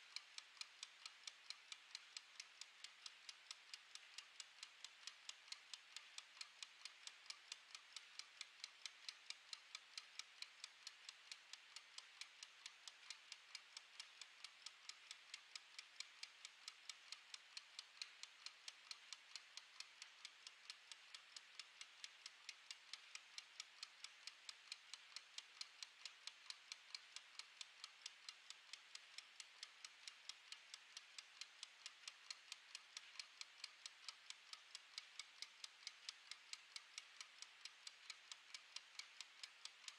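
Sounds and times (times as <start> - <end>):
kitchen timer ticking: 0.0 - 39.9.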